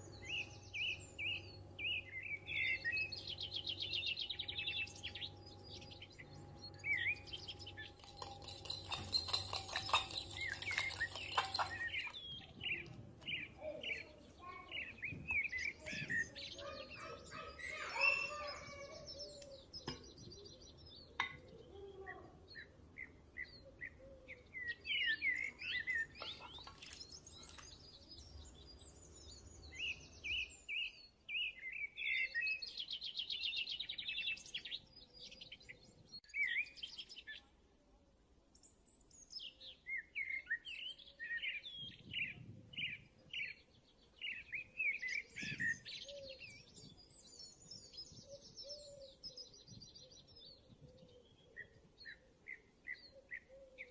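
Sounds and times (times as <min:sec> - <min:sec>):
small birds chirping and trilling: 0:00.0 - 0:37.7, 0:38.5 - 0:53.9.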